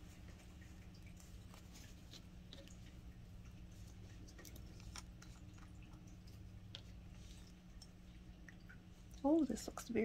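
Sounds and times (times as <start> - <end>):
low steady hum: 0.0 - 10.0
light clicks of glass and plastic: 0.2 - 9.4.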